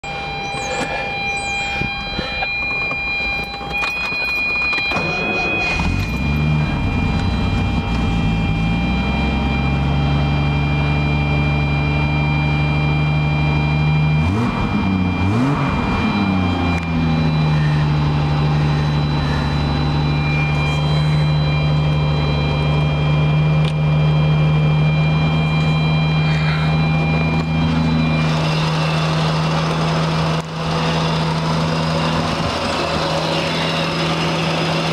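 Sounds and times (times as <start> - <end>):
engine idling: 0.0 - 34.9
car engine starting: 0.3 - 34.9
engine revving: 4.9 - 34.9.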